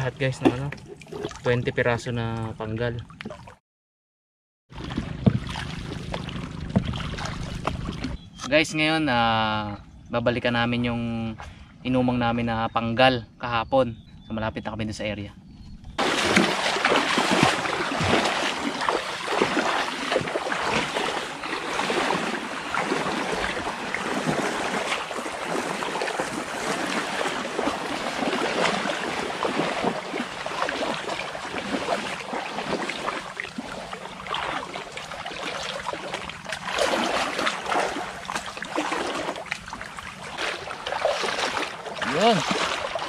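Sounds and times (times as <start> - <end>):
wading through shallow water: 0.0 - 3.6, 4.7 - 8.5, 15.5 - 43.0.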